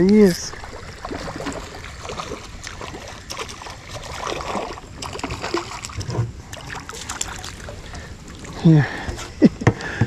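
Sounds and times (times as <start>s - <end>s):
fish splashing at water surface: 0.6s - 8.6s.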